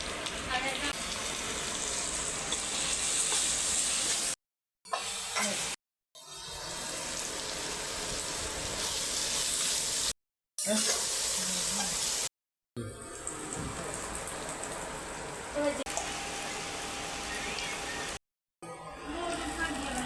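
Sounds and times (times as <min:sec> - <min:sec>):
food sizzling in hot oil: 0:00.0 - 0:12.3, 0:13.0 - 0:18.2, 0:18.9 - 0:20.0.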